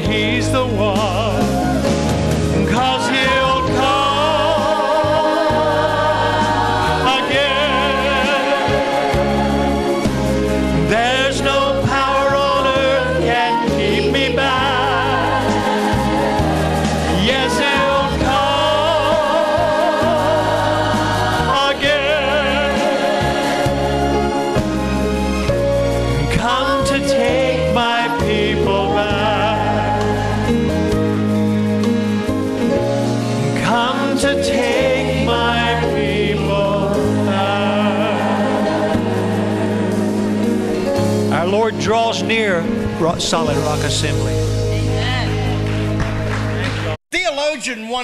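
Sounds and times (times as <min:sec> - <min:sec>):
gospel group singing: 0:00.0 - 0:42.2
steady bass line: 0:00.0 - 0:47.0.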